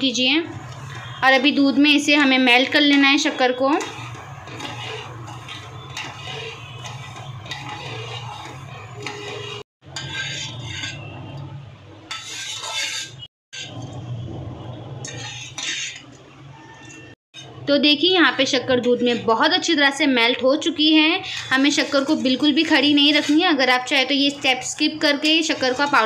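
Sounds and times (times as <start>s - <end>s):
metal spoon scraping metal pot: 0.6s - 14.1s, 15.0s - 17.7s, 18.3s - 26.0s.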